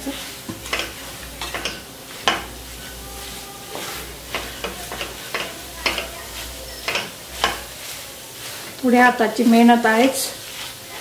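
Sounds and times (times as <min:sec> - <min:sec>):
soft sizzle: 0:00.0 - 0:11.0
wooden spatula scraping a pan: 0:00.0 - 0:11.0.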